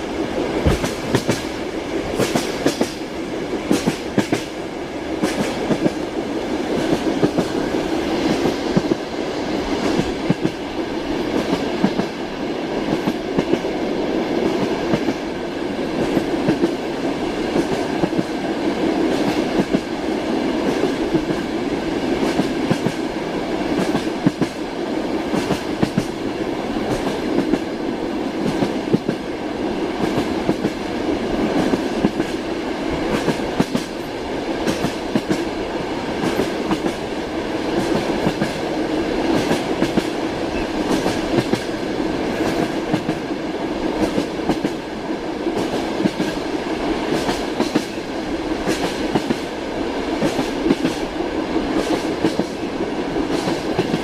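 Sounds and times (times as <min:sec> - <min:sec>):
clickety-clack over rail joints: 0:00.0 - 0:54.0
train wheels rumbling: 0:00.0 - 0:54.0.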